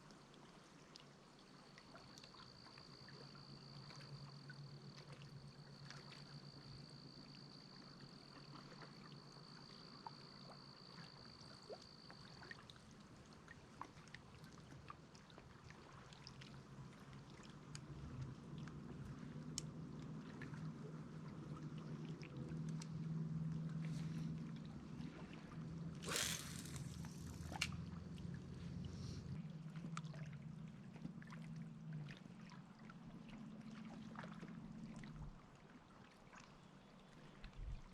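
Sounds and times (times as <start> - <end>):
water lapping against kayak: 0.0 - 37.9.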